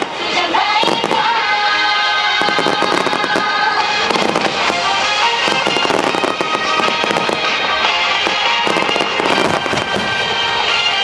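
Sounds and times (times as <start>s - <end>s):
fireworks popping and banging: 0.0s - 11.0s
music playing: 0.0s - 11.0s.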